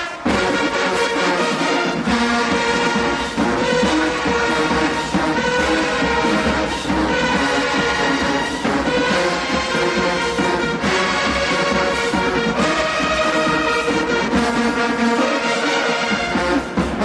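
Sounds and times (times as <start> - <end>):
marching band brass chords: 0.0 - 17.0.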